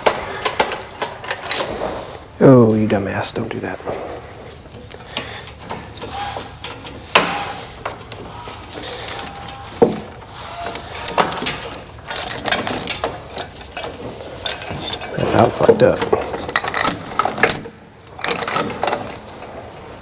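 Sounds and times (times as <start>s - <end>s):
metal tools clinking on metal: 0.0s - 1.9s, 5.2s - 19.8s.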